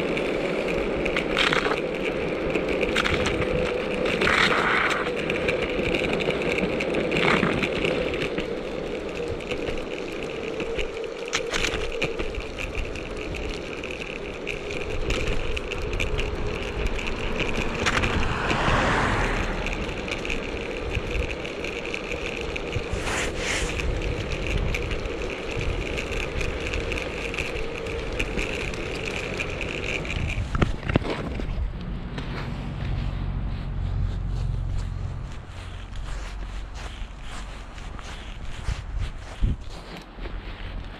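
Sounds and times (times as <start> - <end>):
wheels rolling over asphalt: 0.0 - 40.9.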